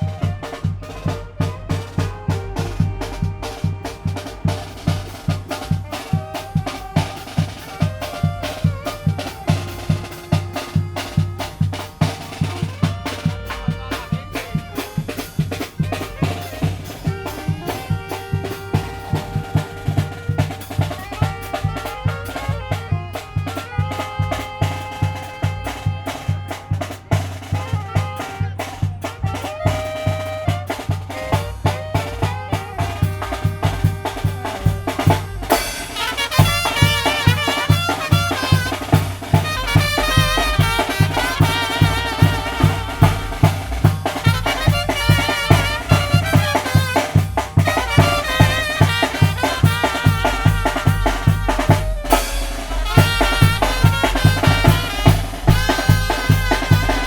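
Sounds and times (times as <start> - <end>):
bass drum and snare beat: 0.0 - 57.0
brass horns playing melody: 0.0 - 57.0.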